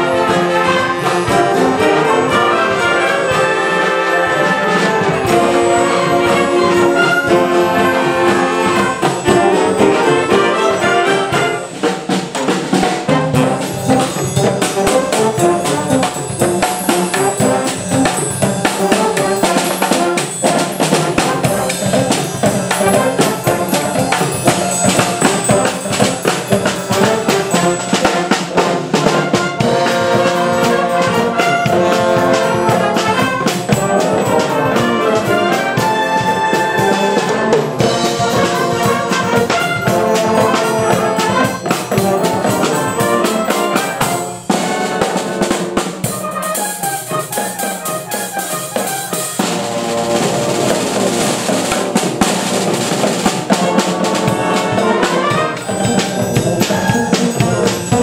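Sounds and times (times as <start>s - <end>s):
trumpets and trombones: 0.0s - 58.0s
wind band playing mambo: 0.0s - 58.0s.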